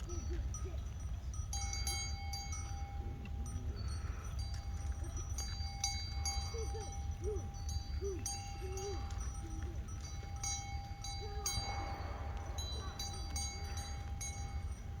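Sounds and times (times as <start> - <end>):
low steady rumble: 0.0 - 15.0
small metal bell clinking: 0.0 - 15.0.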